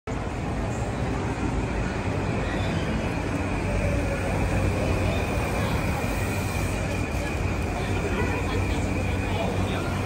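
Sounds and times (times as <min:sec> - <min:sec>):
street traffic: 0:00.1 - 0:10.0
train wheels rumbling on rails: 0:00.1 - 0:10.0.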